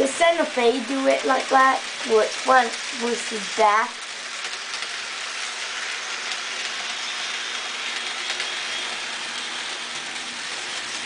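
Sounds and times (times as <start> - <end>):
model train whirring on rails: 0.0 - 11.0.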